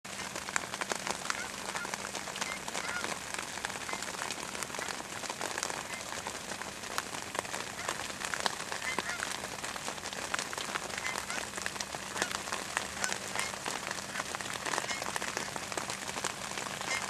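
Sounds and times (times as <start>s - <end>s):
light rain pattering: 0.0s - 17.0s
distant geese calling: 0.2s - 17.0s.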